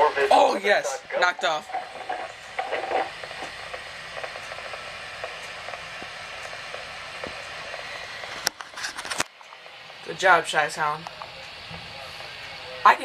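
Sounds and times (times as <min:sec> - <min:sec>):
faint crackles: 0:00.0 - 0:13.0
radio static hiss: 0:00.0 - 0:13.0.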